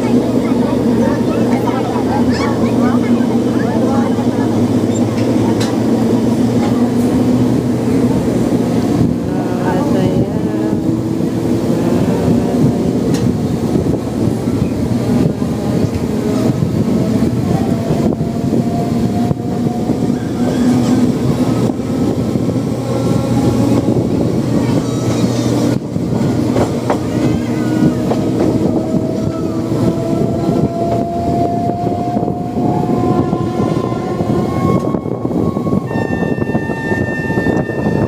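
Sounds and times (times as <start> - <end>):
train wheels rumbling: 0.0 - 38.0.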